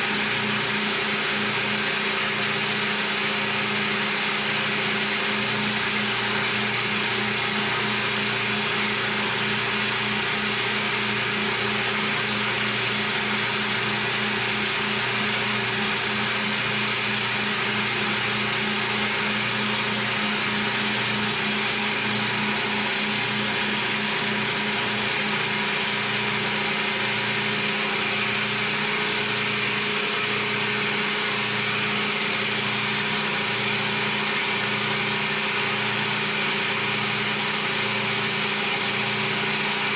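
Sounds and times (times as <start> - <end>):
milling machine cutting: 0.0 - 39.9.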